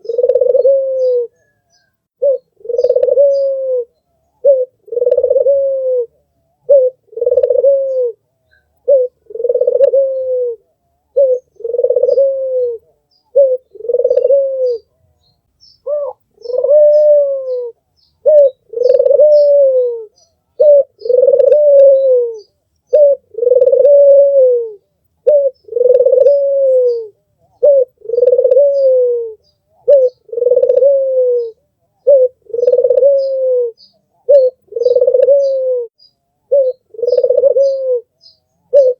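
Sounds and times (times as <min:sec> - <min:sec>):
dove cooing: 0:00.0 - 0:15.2, 0:15.8 - 0:38.9.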